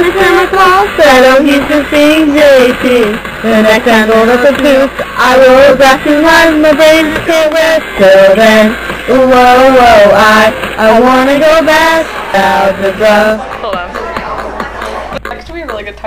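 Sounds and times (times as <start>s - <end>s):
young voices singing: 0.0s - 15.2s
pop backing track: 0.0s - 16.0s.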